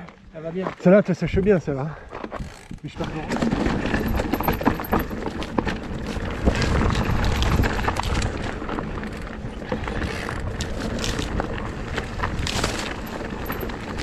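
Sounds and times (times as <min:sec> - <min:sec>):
bike rattling over bumps: 0:02.3 - 0:14.0
bike tyres grinding over stones: 0:02.4 - 0:14.0.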